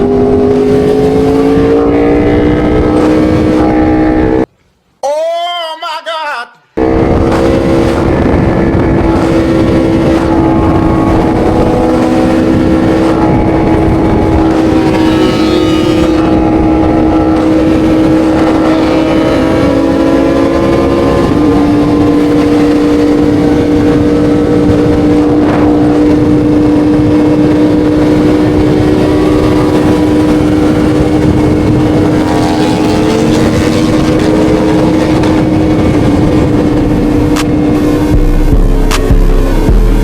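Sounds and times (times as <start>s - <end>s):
motorcycle engine at high revs: 0.0s - 4.5s, 6.8s - 40.0s.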